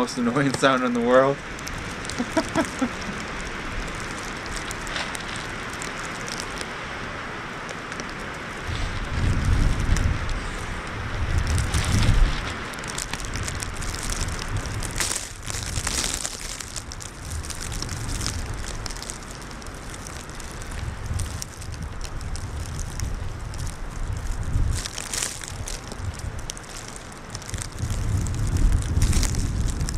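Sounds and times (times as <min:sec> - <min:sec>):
wind rumbling on microphone: 0:00.0 - 0:29.9
plastic bag crinkling: 0:00.4 - 0:06.7, 0:11.2 - 0:29.9.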